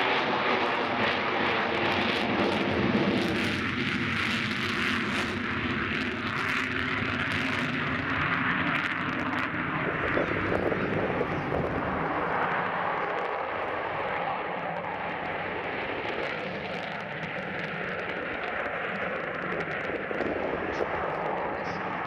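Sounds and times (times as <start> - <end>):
jet aircraft flying overhead: 0.0 - 22.0.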